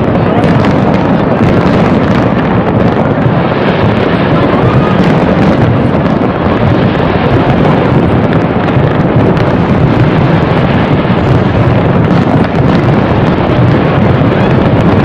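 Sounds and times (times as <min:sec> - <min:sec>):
fireworks barrage rumble: 0:00.0 - 0:15.0.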